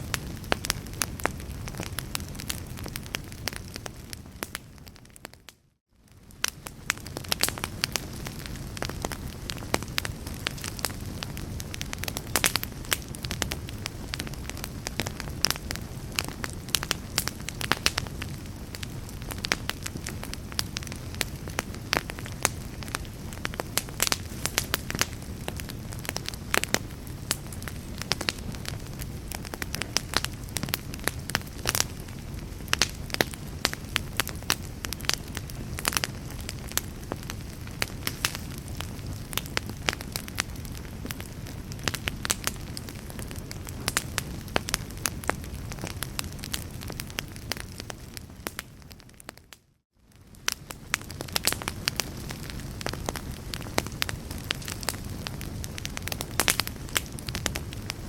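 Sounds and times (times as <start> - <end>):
log fire crackling: 0.0 - 58.0
low rumble of flames: 0.0 - 58.0.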